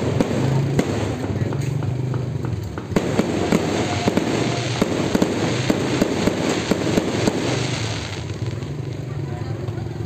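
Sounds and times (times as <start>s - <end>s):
fireworks crackling: 0.0s - 10.0s
fireworks pops and bangs: 0.0s - 10.0s.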